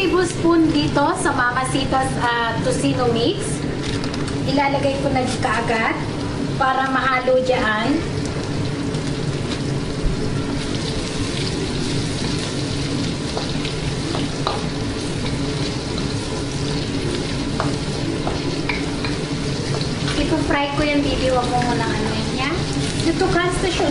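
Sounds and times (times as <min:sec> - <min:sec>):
garlic sizzling in oil: 0:00.0 - 0:23.9.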